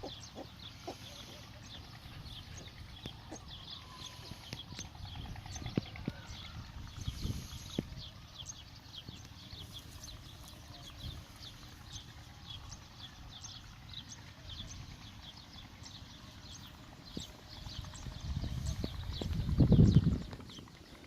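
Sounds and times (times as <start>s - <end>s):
birds chirping: 0.0s - 21.0s
steady low rumble: 0.0s - 21.0s.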